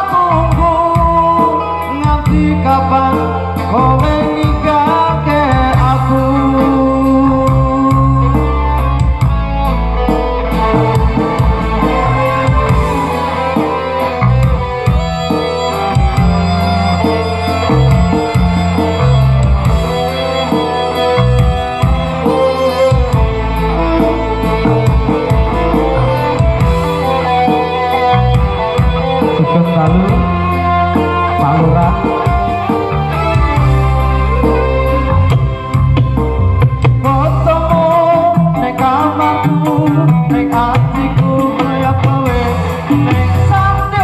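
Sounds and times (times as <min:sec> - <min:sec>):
loud music with guitar and bass: 0:00.0 - 0:44.0.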